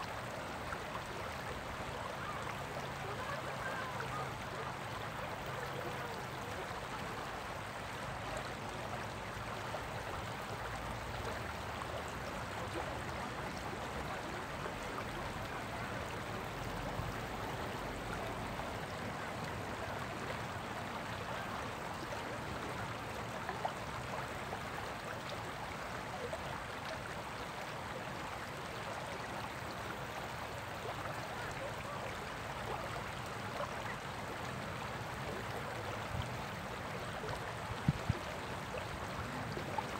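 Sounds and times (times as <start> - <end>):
stream rippling over stones: 0.0 - 39.9.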